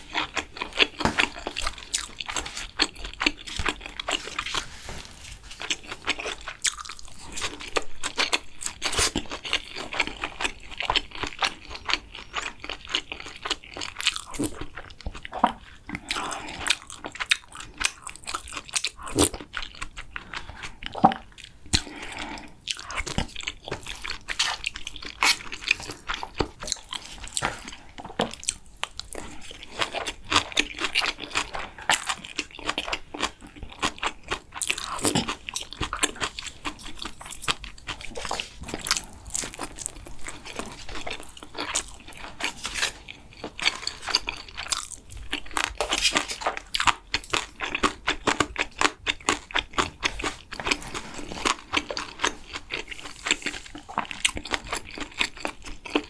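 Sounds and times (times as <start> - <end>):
chewing crunchy food: 0.0 - 56.0.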